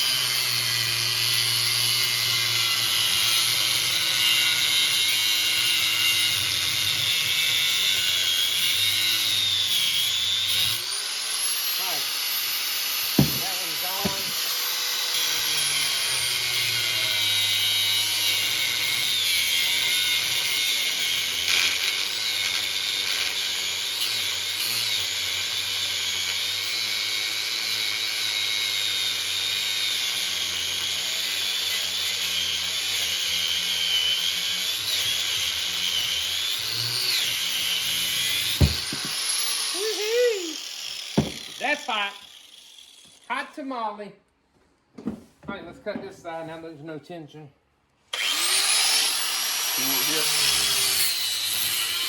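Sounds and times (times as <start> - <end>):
angle grinder cutting steel: 0.0 - 43.6, 48.1 - 52.0.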